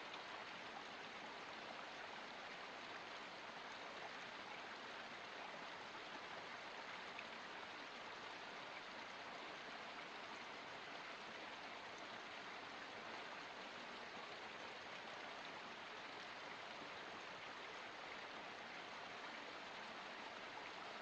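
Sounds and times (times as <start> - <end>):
stream flowing: 0.0 - 21.0.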